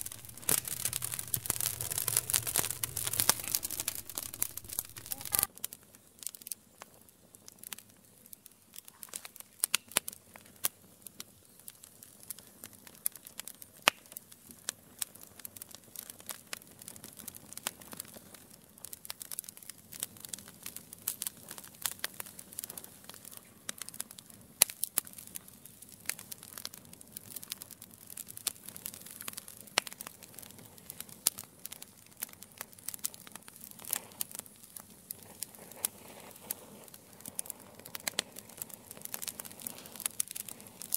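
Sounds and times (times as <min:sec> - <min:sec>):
sharp pops and snaps: 0:00.0 - 0:10.8, 0:11.7 - 0:14.3, 0:18.8 - 0:40.9
hiss of burning embers: 0:00.0 - 0:40.9
wood fire crackling: 0:00.0 - 0:40.9.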